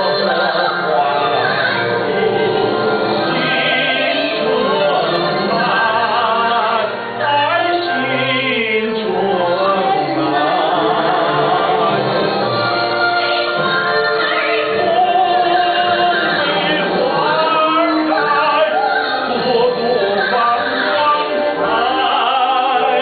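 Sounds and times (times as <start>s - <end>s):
person singing with vibrato: 0.0s - 23.0s
sustained instrumental accompaniment: 0.0s - 23.0s.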